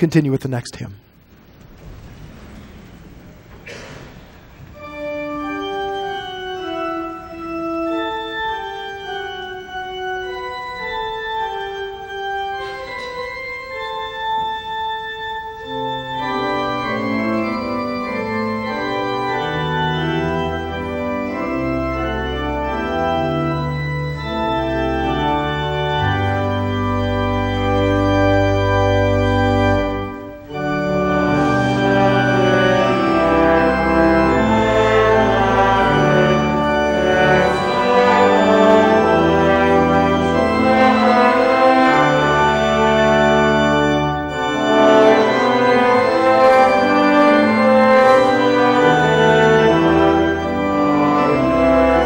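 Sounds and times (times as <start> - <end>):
church organ playing a hymn: 0.0 - 52.0.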